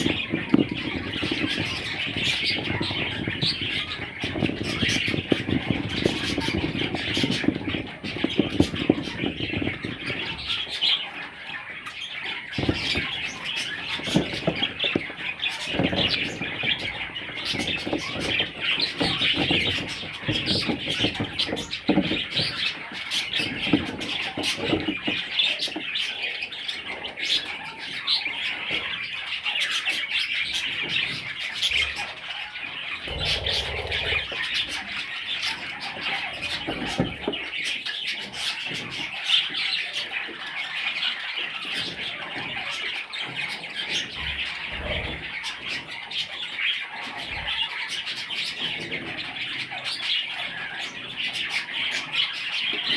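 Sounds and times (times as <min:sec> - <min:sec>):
bird chicks chirping and squawking: 0:00.0 - 0:52.9.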